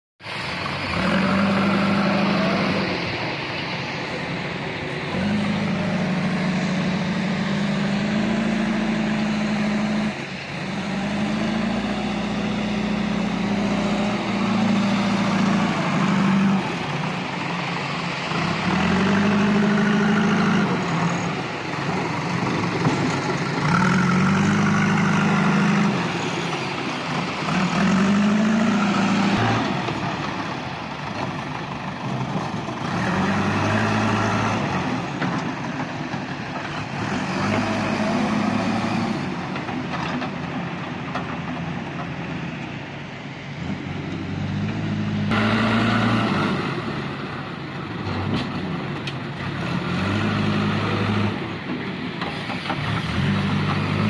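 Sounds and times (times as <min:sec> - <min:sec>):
diesel engine revving: 0:00.2 - 0:54.0.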